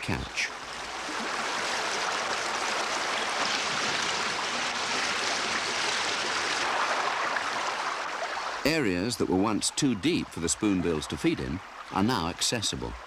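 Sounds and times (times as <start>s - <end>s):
rushing flowing water: 0.0s - 13.0s.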